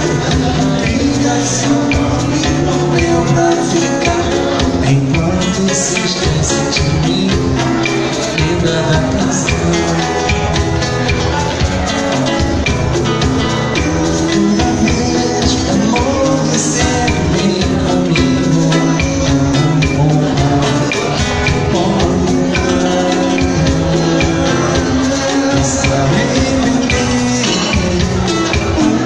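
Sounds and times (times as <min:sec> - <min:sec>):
drum kit beat: 0:00.0 - 0:29.0
pop band music: 0:00.0 - 0:29.0.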